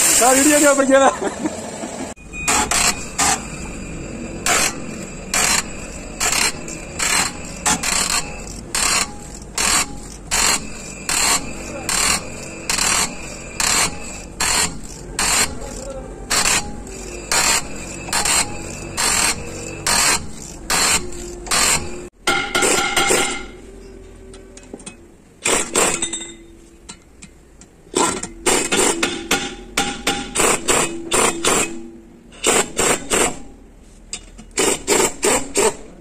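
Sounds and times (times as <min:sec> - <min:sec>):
pneumatic impact wrench hammering: 0:00.0 - 0:00.5, 0:02.2 - 0:23.6, 0:24.8 - 0:36.0.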